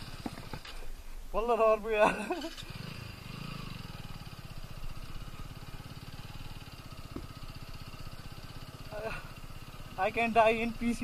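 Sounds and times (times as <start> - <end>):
motorcycle engine running: 0.0 - 0.7, 2.1 - 11.0.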